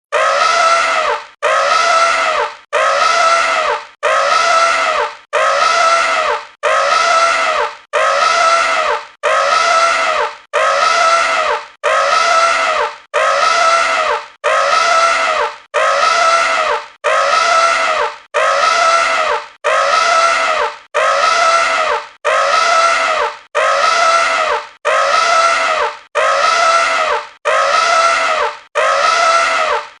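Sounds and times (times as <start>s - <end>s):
elephant trumpeting: 0.1s - 30.0s.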